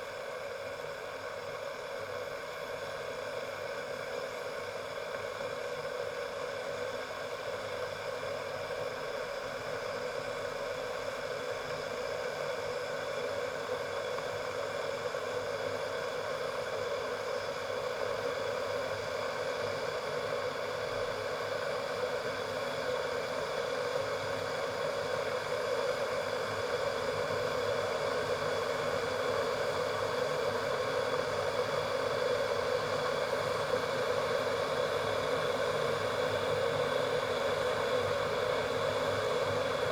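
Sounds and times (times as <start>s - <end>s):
kettle heating water hiss: 0.0s - 39.9s.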